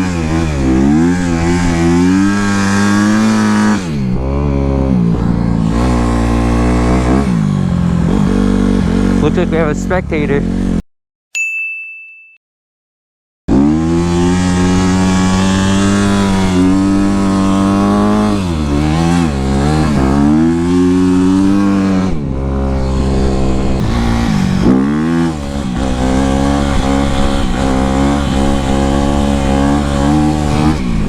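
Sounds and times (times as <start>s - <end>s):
dirt bike engine revving: 0.0s - 10.8s, 13.5s - 31.0s.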